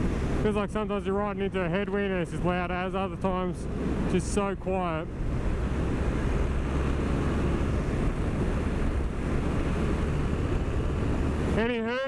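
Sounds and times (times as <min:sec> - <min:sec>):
motorcycle engine drone: 0:00.0 - 0:12.0
wind rushing over microphone: 0:00.0 - 0:12.0.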